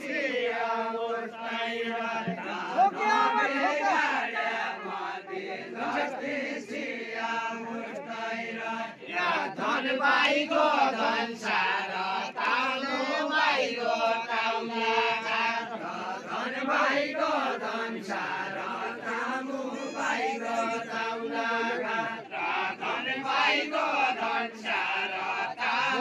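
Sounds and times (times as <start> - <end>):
group chanting a song: 0.0 - 26.0.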